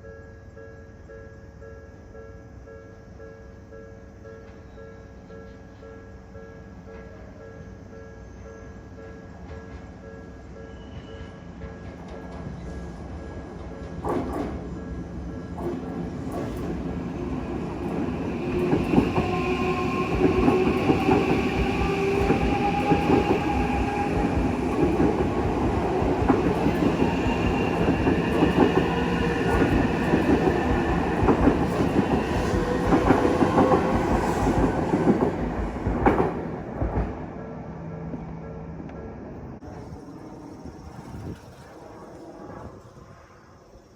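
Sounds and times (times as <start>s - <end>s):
electric train passing: 1.0s - 43.9s.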